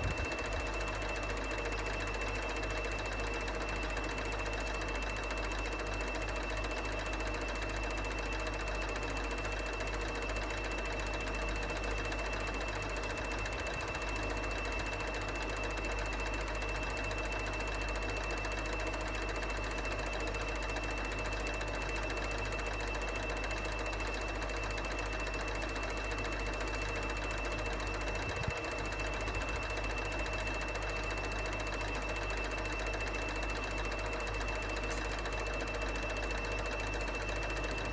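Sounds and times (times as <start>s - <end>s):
film projector clattering: 0.0s - 37.9s
projector motor and fan hum: 0.0s - 37.9s.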